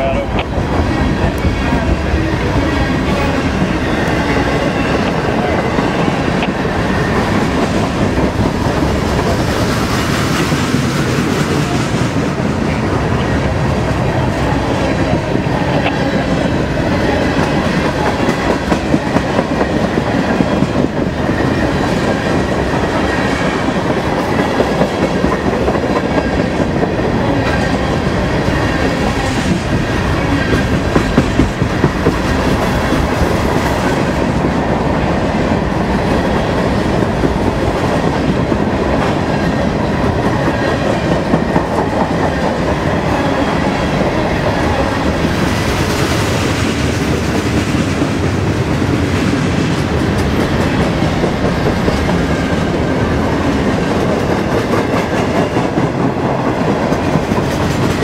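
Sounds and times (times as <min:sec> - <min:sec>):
freight train cars rolling: 0:00.0 - 0:58.0.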